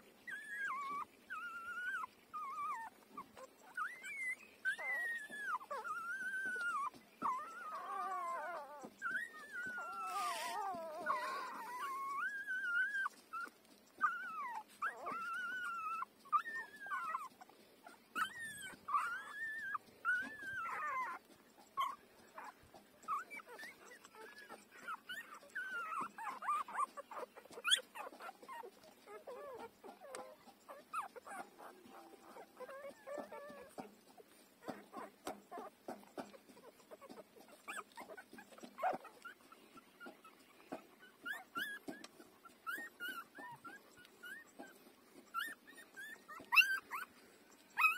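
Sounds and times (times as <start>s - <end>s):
puppies whining and squealing: 0.0s - 47.9s.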